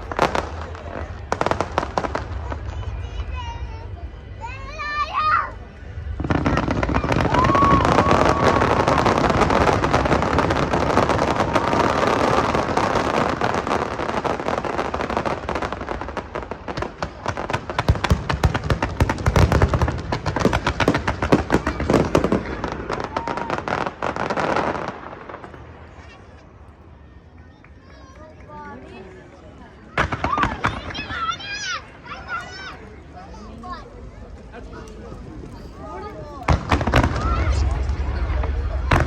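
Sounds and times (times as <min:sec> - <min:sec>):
fireworks bangs and crackling: 0:00.0 - 0:26.6, 0:29.9 - 0:39.0.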